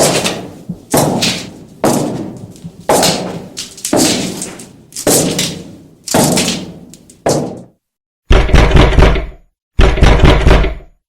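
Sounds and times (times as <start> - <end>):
heavy echoing thuds: 0.0 - 10.9.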